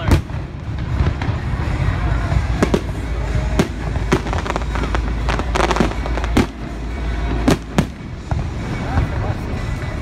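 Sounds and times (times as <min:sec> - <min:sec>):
fireworks bangs: 0:00.0 - 0:09.3
fireworks crackling: 0:00.0 - 0:10.0
steady low rumble: 0:00.0 - 0:10.0.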